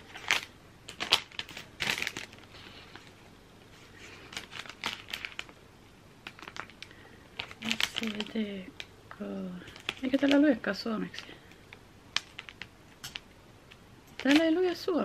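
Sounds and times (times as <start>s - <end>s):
plastic wrapper crinkling: 0.0s - 3.2s, 3.8s - 5.6s, 6.2s - 15.0s.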